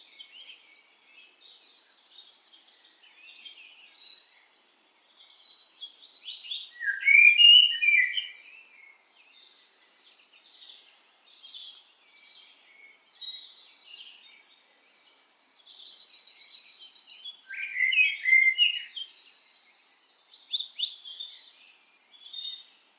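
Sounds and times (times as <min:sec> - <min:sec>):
small songbirds singing: 0:00.0 - 0:22.9.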